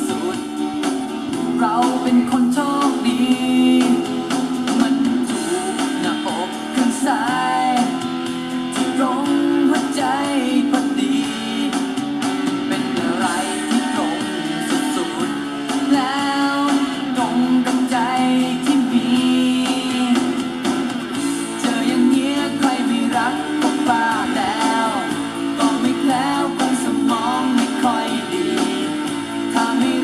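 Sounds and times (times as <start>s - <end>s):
pop song through stereo speakers: 0.0s - 30.0s.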